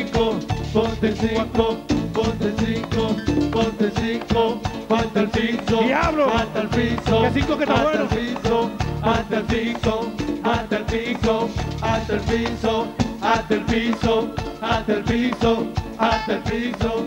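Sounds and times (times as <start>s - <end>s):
live merengue band playing: 0.0s - 17.0s.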